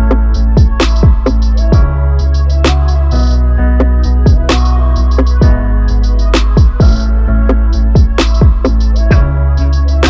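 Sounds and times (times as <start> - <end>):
deep bass line: 0.0 - 10.0
drum machine beat: 0.0 - 10.0.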